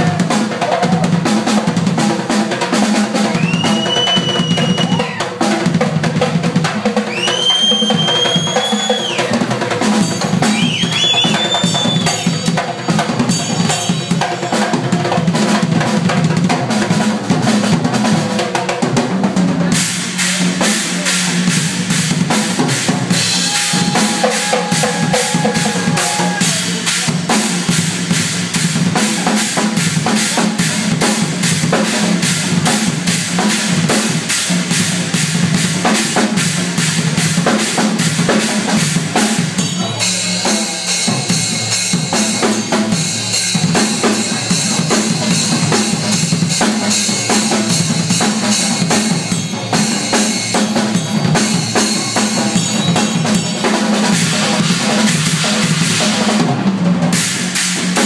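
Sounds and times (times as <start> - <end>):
drum kit solo: 0.0 - 58.0.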